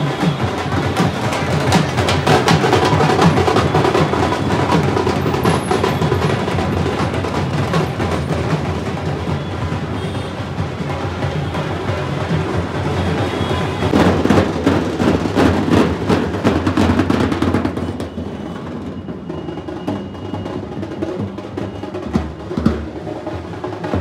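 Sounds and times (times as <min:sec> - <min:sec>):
drum group playing fast rolls: 0:00.0 - 0:24.0.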